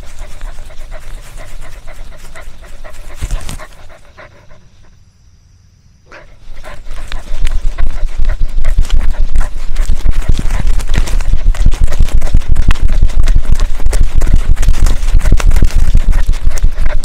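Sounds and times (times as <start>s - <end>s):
dog panting: 0.0s - 5.0s, 6.1s - 17.0s.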